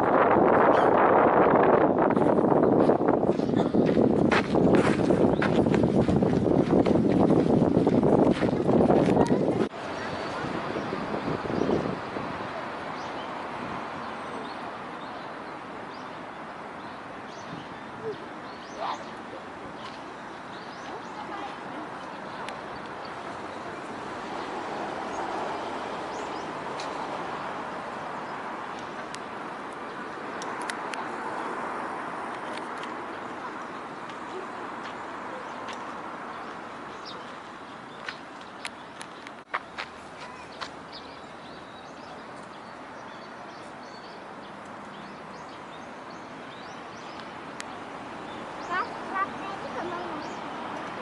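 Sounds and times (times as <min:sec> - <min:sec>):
steady outdoor rush: 0:00.0 - 0:51.0.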